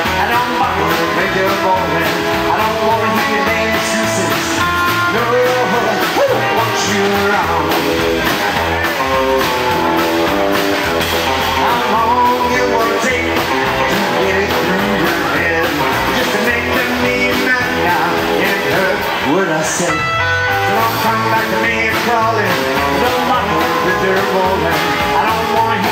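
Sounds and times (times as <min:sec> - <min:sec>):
live rock and roll band: 0:00.0 - 0:25.9.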